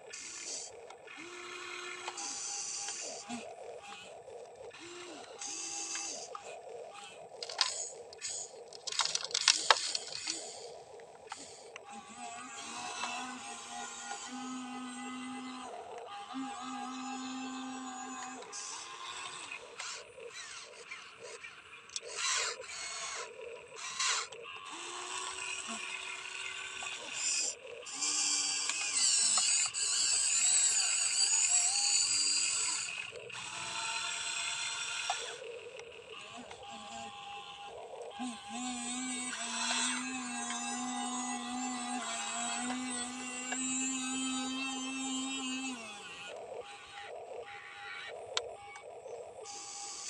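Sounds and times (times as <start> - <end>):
toy excavator motors whining: 0.0 - 50.0.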